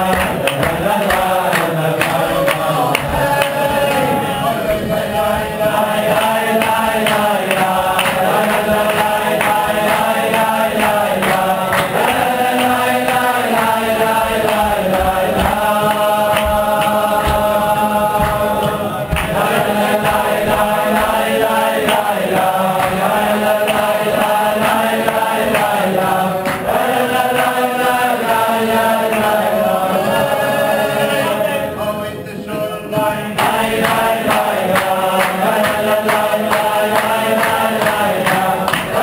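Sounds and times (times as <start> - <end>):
men chanting a prayer tune: 0.0 - 39.0.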